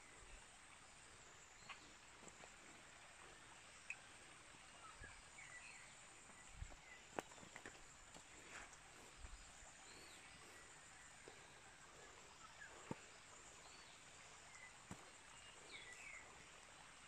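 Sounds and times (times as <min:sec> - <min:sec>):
soft bird chirps: 0:03.2 - 0:17.0.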